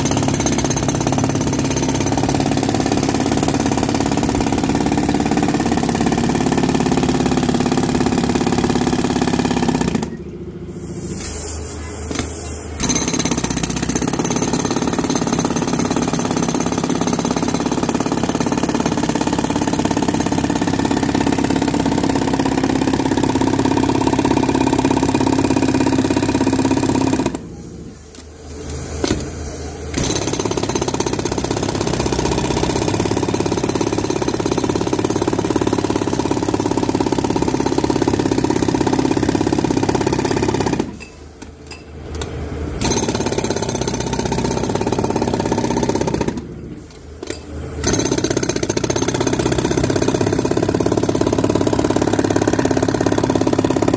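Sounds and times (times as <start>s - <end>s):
jackhammer pounding concrete: 0.0s - 10.3s, 12.8s - 27.6s, 29.9s - 41.0s, 42.8s - 46.5s, 47.2s - 53.9s.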